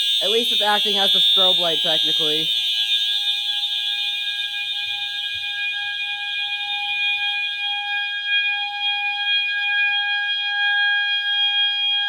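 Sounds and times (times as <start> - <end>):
fire alarm horns sounding: 0.0 - 12.0.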